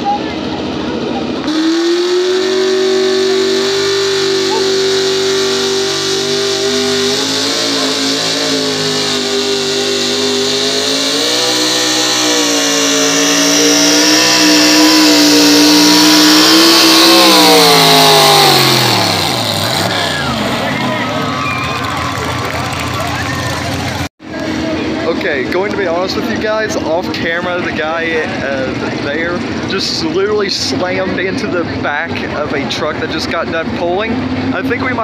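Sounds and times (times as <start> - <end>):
truck engine at high revs: 0.0 - 35.0.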